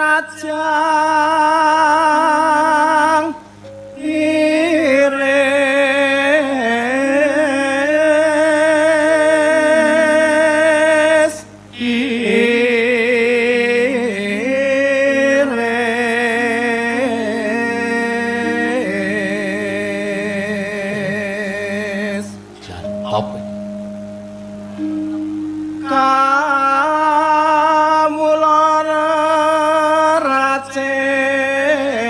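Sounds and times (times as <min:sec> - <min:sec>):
person singing long wavering notes: 0:00.0 - 0:32.0.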